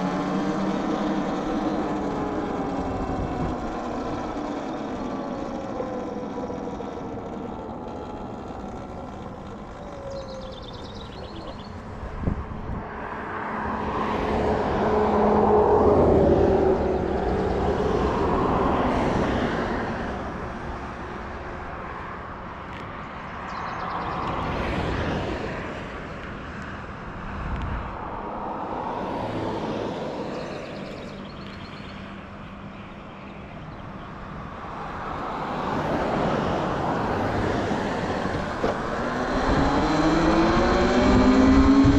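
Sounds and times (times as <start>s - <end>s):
electric motor whine: 0.0s - 23.0s, 27.5s - 41.9s
wind and tyre rush: 0.0s - 41.9s.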